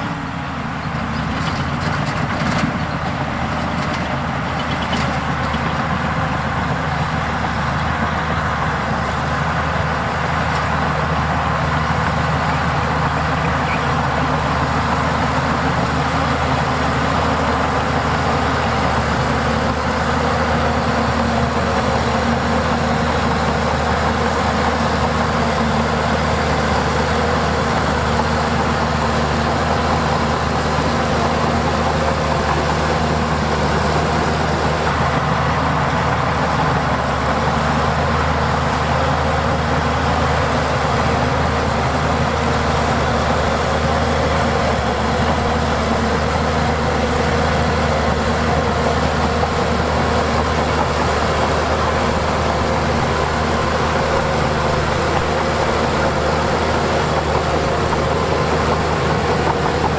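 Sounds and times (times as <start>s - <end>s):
heavy machinery diesel engine drone: 0.0s - 59.9s.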